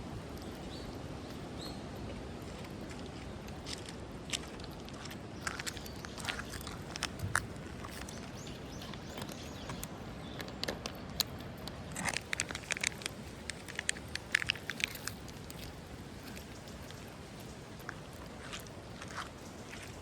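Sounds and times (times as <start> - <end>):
cat crunching food: 2.6 - 20.0.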